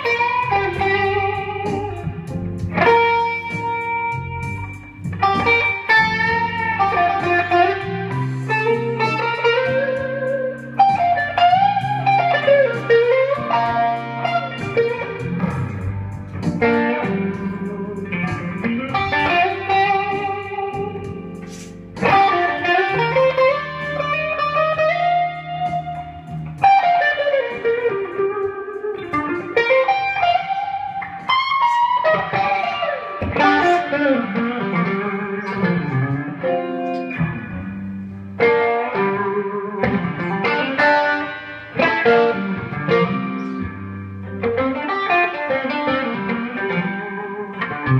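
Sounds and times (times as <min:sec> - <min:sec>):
electric guitar blues solo: 0:00.0 - 0:47.9.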